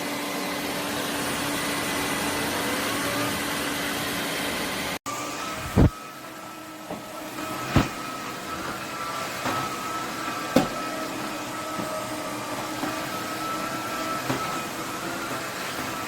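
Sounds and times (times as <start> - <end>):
vacuum hum and whine: 0.0 - 16.0.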